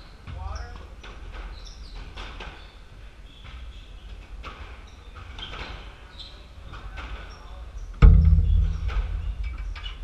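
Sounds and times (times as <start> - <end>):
sneakers squeaking on hardwood: 0.0 - 10.0.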